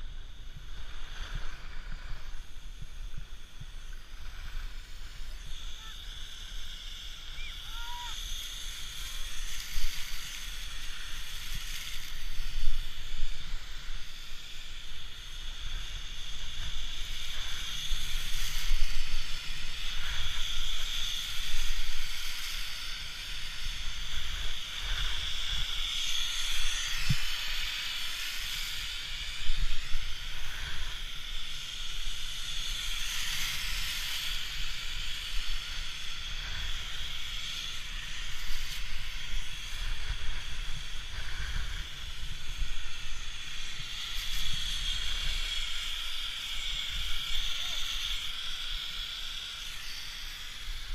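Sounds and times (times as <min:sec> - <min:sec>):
snowmaking guns hissing: 0:00.0 - 0:50.9
wind on microphone: 0:00.0 - 0:50.9.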